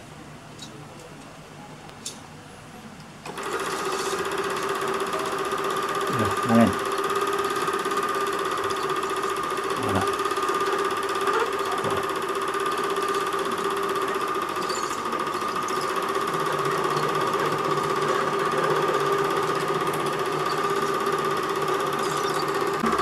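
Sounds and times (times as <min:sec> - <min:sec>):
film projector motor humming: 0:03.2 - 0:23.0.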